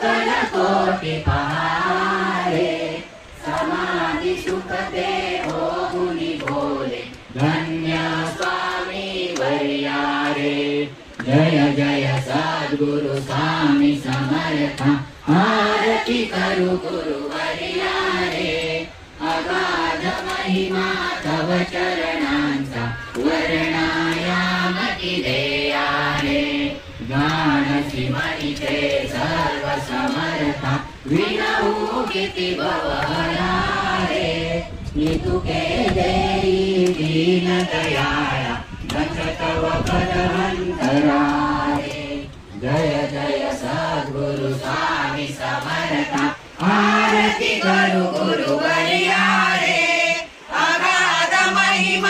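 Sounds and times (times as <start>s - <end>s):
group chanting a hymn: 0.0s - 52.0s.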